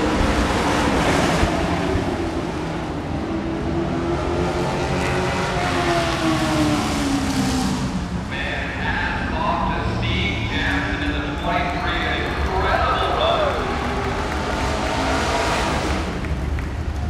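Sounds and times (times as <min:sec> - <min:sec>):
racing truck engines: 0:00.0 - 0:17.0
truck passing close by: 0:00.0 - 0:17.0.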